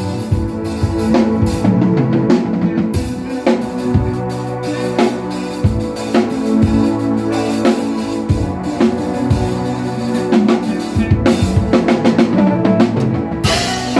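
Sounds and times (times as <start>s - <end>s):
drum kit beat: 0.0s - 13.9s.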